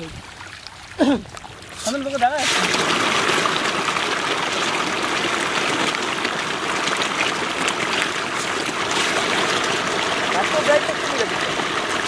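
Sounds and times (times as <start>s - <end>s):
fish splashing at water surface: 0.0s - 12.0s.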